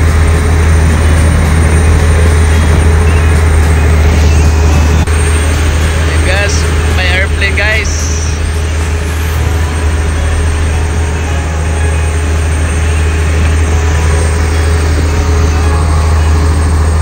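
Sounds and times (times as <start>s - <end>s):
boat engine low hum: 0.0s - 17.0s
constant rushing noise: 0.0s - 17.0s.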